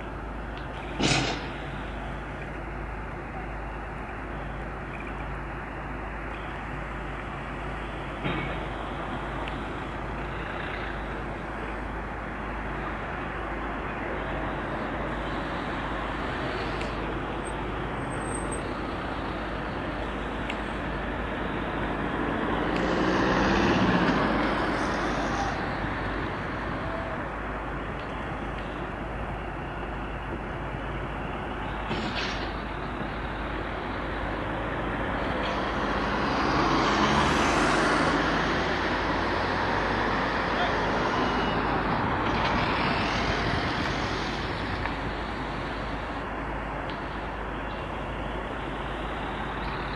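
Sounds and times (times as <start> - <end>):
heavy vehicle engines: 0.0 - 49.9
road traffic: 0.0 - 49.9.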